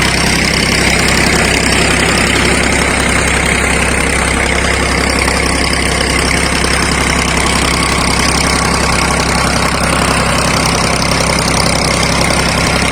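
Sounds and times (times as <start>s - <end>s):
diesel tractor engine idling: 0.0s - 12.9s.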